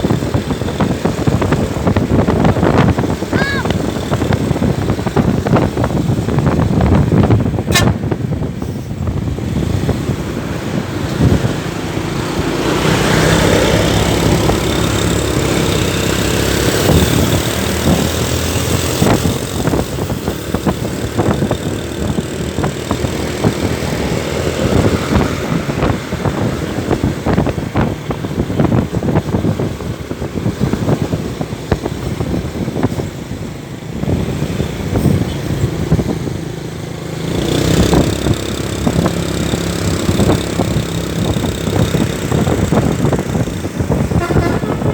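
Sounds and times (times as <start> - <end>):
large vehicle engine running: 0.0 - 44.9
road traffic noise: 0.0 - 44.9.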